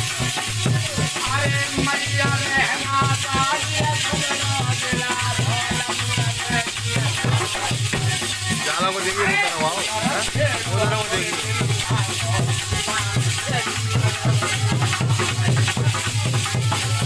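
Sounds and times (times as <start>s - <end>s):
drum beating steadily: 0.0s - 17.0s
shaken hissing percussion: 0.0s - 17.0s.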